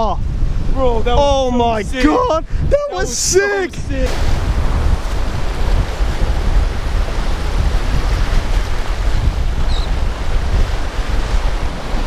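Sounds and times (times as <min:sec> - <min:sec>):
waves and moving water: 0:00.0 - 0:12.0
wind buffeting microphone: 0:00.0 - 0:12.0.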